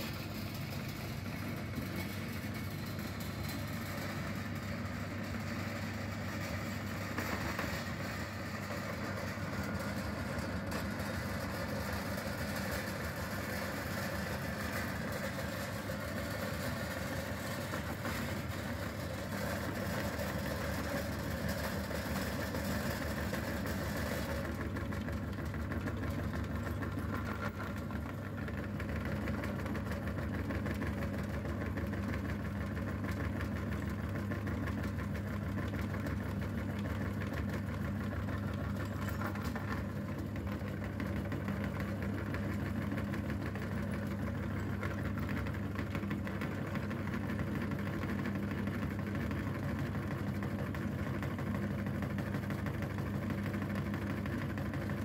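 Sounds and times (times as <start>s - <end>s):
meat grinder running: 0.0s - 55.0s.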